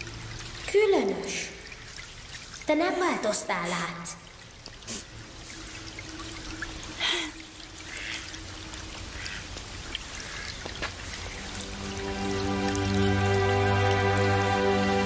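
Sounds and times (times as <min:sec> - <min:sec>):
brook trickling: 0:00.0 - 0:15.0
water splashing: 0:00.0 - 0:15.0.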